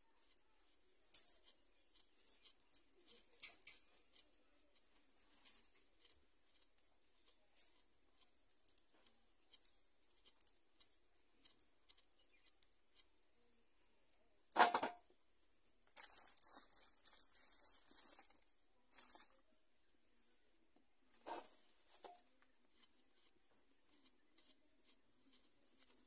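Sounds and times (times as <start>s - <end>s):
rustling and scraping of wood fire: 0.0s - 19.5s, 21.0s - 26.0s.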